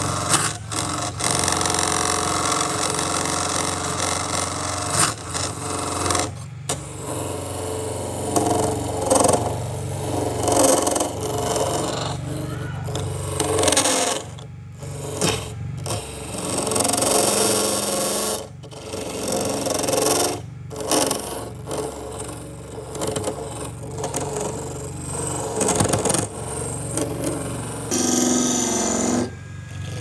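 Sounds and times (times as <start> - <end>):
power tool cutting wood: 0.0 - 30.0.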